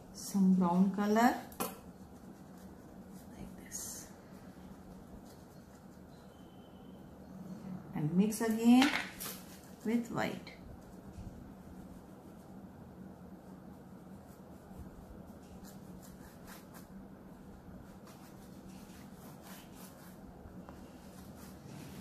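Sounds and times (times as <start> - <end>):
steady low hum: 0.0 - 22.0
oil pastel scratching on paper: 0.5 - 6.7, 9.2 - 22.0.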